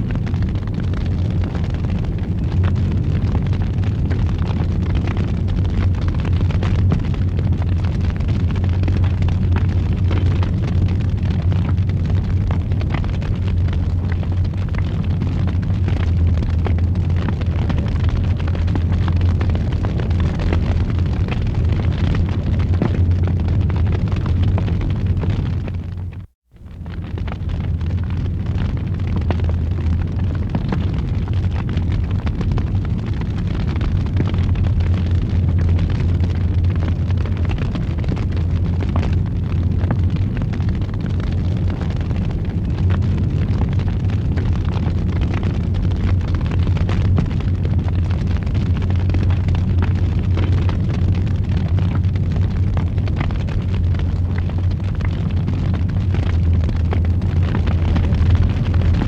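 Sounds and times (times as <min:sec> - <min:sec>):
fire roaring: 0:00.0 - 0:59.0
wood crackling and popping: 0:00.0 - 0:59.0.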